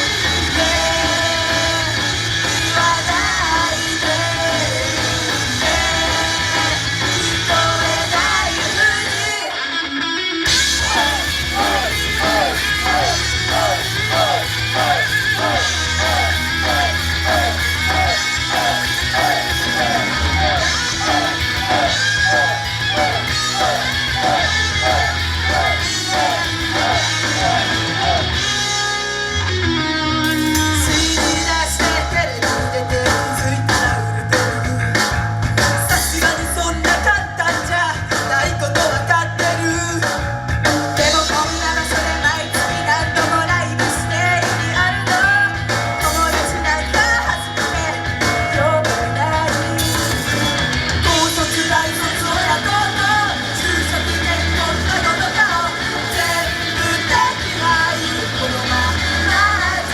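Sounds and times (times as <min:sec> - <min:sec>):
live rock band with singing: 0:00.0 - 0:59.9.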